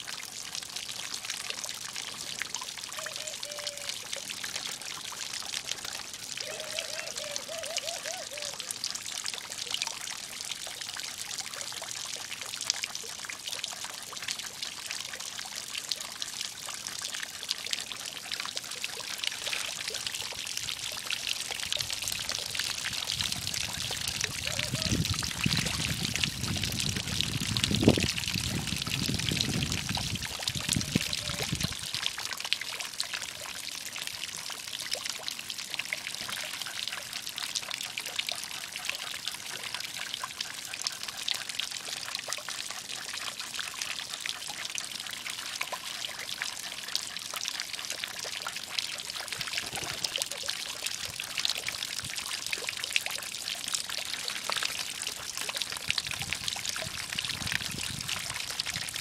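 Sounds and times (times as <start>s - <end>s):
water pouring and trickling: 0.0s - 59.0s.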